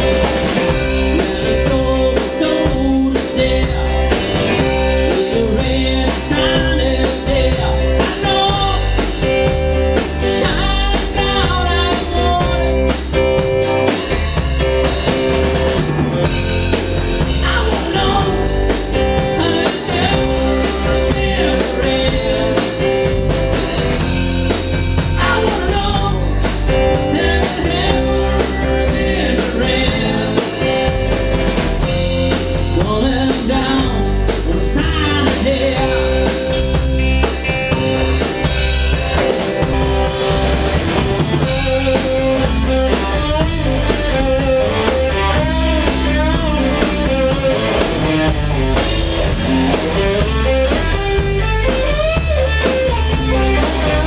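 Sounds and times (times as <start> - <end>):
drum kit: 0.0 - 54.0
guitar: 0.0 - 54.0
low bass line: 0.0 - 54.0.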